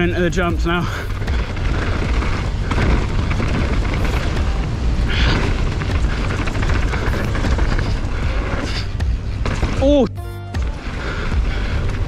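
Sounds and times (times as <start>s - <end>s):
wind buffeting microphone: 0.0s - 9.8s
bike tyres rumbling on gravel: 0.0s - 12.0s.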